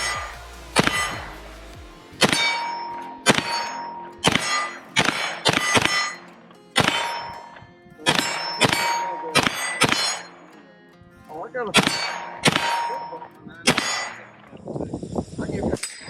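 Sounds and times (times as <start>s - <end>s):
steel plate target ringing: 0.0s - 1.4s, 2.1s - 10.6s, 11.7s - 14.6s, 15.8s - 16.0s
gunshots: 0.0s - 10.4s, 11.7s - 14.6s.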